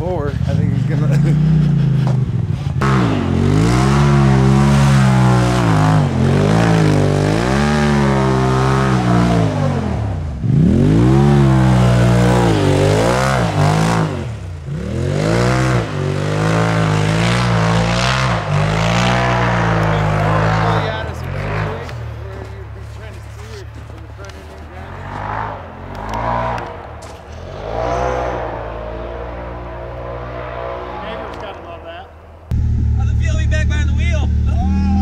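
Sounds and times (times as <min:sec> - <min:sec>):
engine revving hard: 0:00.4 - 0:22.0, 0:24.8 - 0:31.8.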